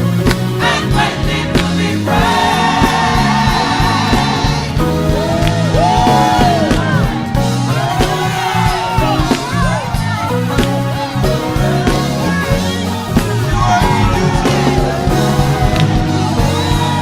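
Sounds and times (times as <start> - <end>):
gospel choir singing: 0.0 - 17.0
instrumental backing with bass line: 0.0 - 17.0.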